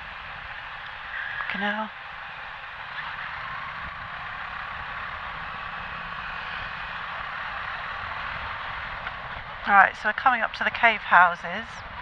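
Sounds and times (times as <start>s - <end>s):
motorcycle engine rumble: 0.0s - 10.8s
wind and road noise: 0.0s - 12.0s.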